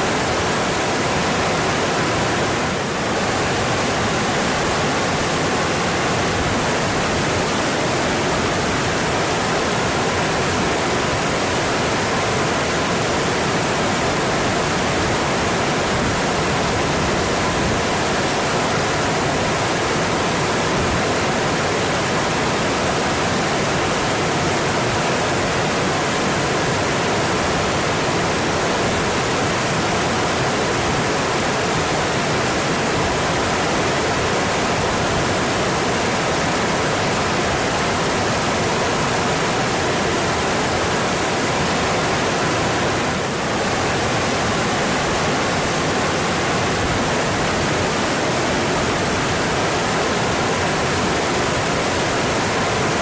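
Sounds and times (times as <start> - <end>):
mountain stream rushing: 0.0 - 53.0.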